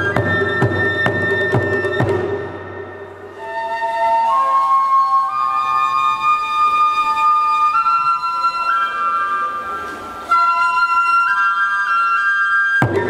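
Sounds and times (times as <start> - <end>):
bamboo flute slow melody: 0.0 - 13.0
lower flute line: 0.0 - 13.0.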